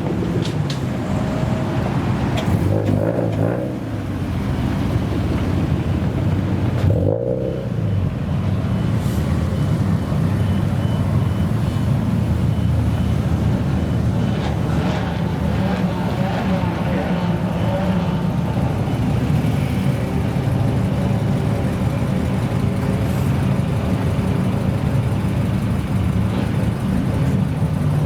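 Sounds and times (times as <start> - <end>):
car engine low exhaust note: 1.2 - 28.0.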